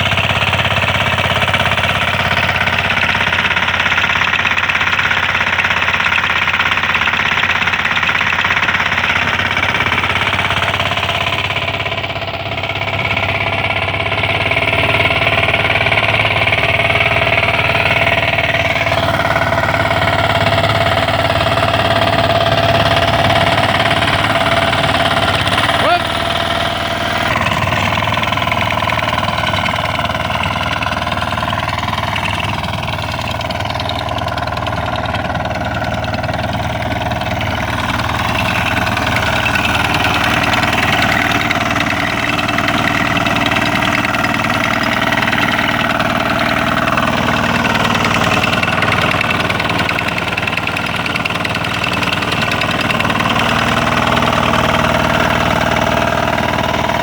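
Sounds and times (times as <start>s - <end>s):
small engine driving rotary tiller: 0.0s - 57.0s.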